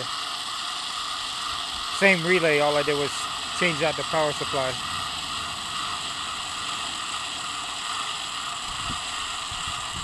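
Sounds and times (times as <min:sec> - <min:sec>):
electric motor with gear noise: 0:00.0 - 0:10.0.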